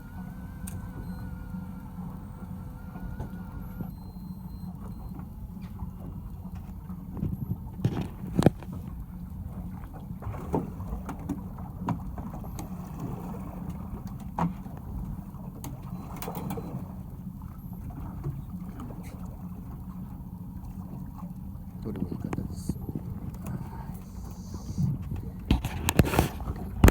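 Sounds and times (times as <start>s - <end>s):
boat engine humming: 0.0s - 26.9s.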